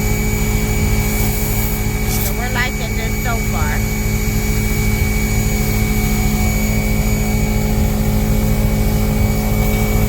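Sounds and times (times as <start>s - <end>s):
generator and pressure washer hum: 0.0s - 10.0s.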